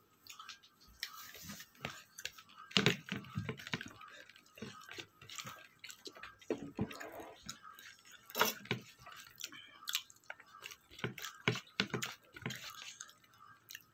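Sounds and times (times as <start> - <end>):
chewing and mouth smacks: 2.1 - 13.9.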